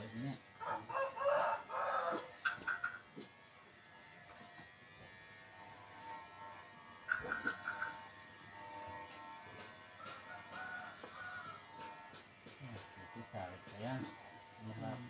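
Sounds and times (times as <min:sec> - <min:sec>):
electric hair clipper running: 0:00.0 - 0:15.0
rough shearing sound: 0:00.0 - 0:15.0.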